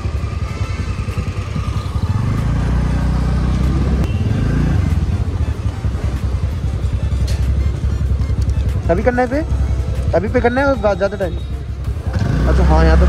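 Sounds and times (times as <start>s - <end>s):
motor scooter engine: 0.0s - 10.8s.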